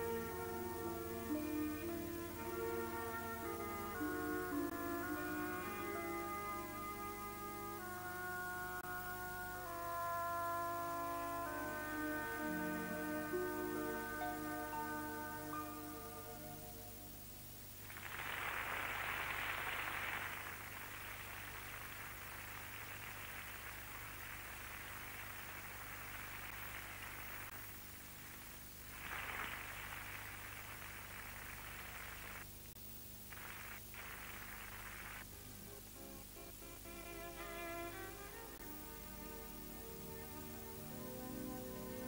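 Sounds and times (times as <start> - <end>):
steady noisy hiss: 0.0 - 42.0.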